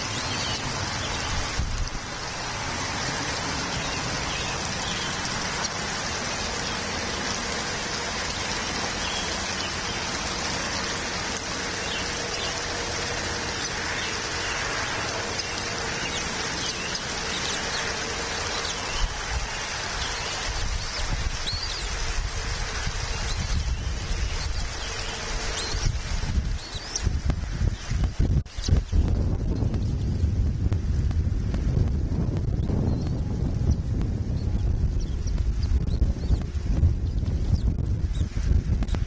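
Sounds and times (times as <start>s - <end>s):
rain-like hiss: 0.0s - 39.0s.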